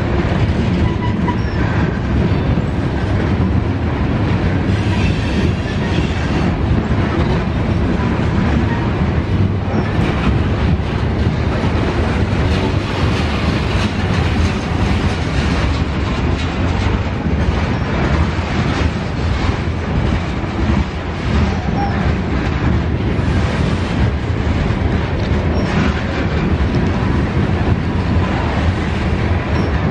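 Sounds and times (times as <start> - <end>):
freight train rumbling past: 0.0 - 29.9
wheels clacking over rail joints: 0.0 - 29.9.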